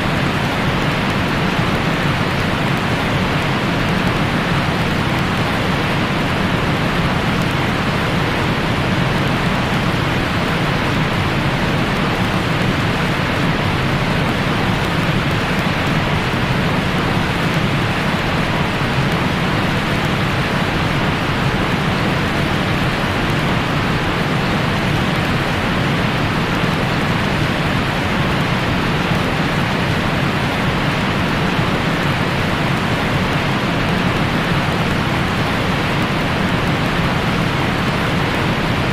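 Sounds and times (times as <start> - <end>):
steady rain-like hiss: 0.0 - 38.9.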